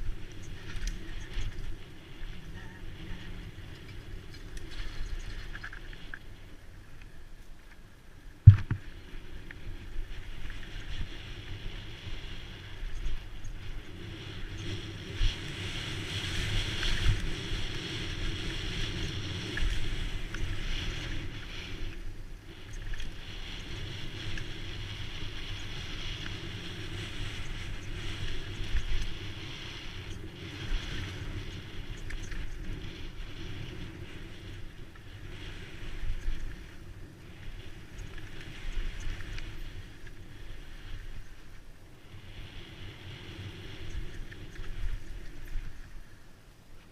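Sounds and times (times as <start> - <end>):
wind on microphone: 0.0 - 6.7, 8.4 - 46.9
bike tyres and suspension rumble: 0.0 - 46.9.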